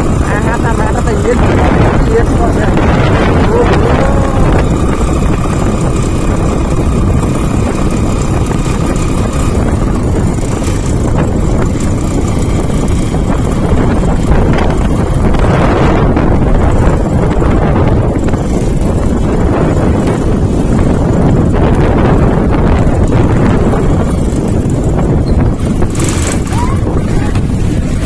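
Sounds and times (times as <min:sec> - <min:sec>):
road and engine noise: 0:00.0 - 0:28.0
wind buffeting microphone: 0:00.0 - 0:28.0.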